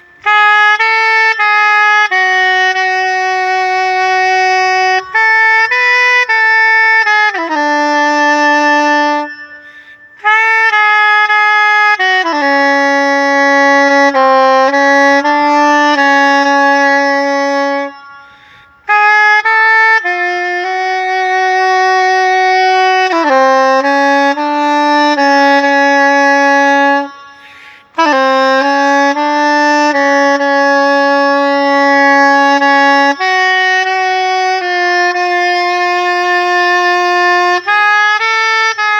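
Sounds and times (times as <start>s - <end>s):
soprano saxophone melody: 0.0s - 38.9s.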